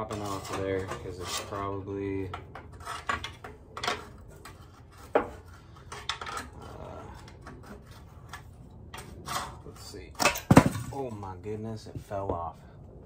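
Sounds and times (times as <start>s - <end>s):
pry bar scraping metal: 0.0s - 10.8s.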